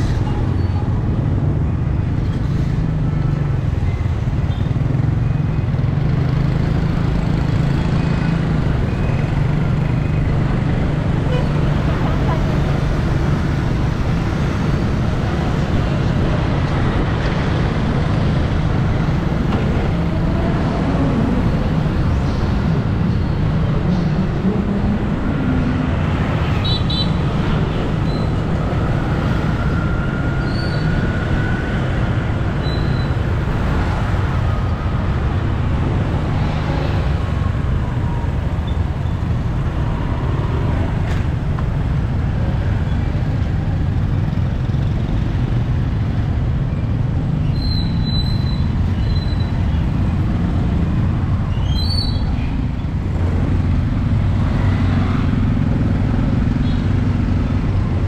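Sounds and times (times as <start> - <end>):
passing vehicle engines: 0.0 - 58.0.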